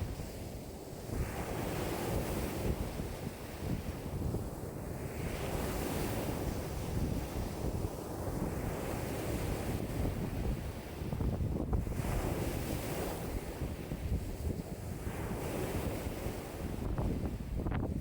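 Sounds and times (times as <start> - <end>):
waves washing on a lake: 0.0 - 18.0
wind buffeting microphone: 0.0 - 18.0.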